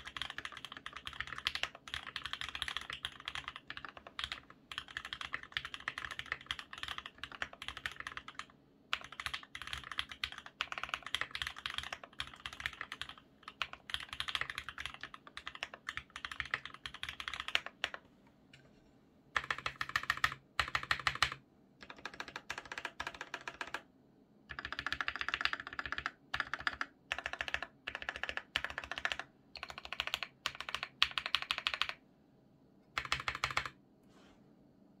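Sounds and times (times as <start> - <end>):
mechanical keyboard typing: 0.0 - 18.0, 19.4 - 23.9, 24.5 - 32.0, 32.9 - 33.8.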